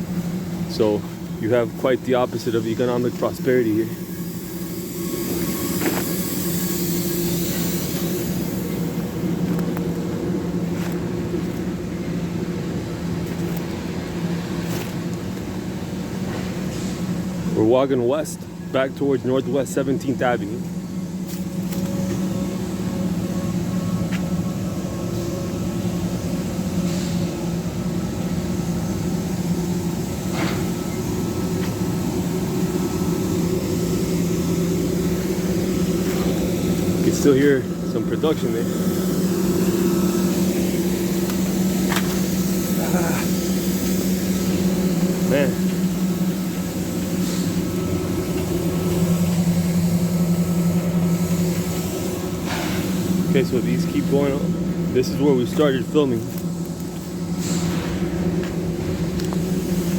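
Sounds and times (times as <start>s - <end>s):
factory machine hum: 0.0s - 59.9s.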